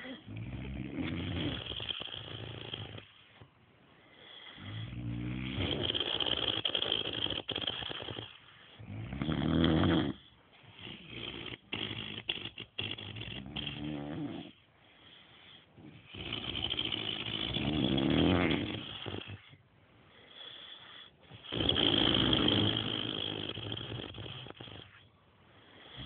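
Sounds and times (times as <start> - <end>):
man snoring: 0.0 - 3.1, 4.2 - 14.6, 15.8 - 19.5, 20.3 - 24.8
quiet breathing: 0.0 - 26.0.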